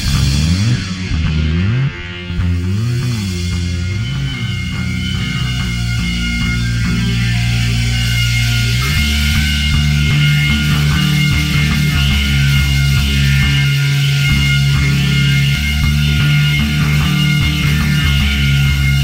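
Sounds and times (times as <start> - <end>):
heavy rock music: 0.0 - 19.0.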